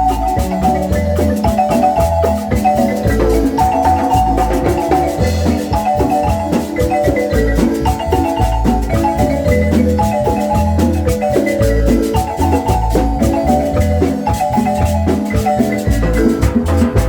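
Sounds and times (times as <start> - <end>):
marimba ensemble playing: 0.0 - 17.0.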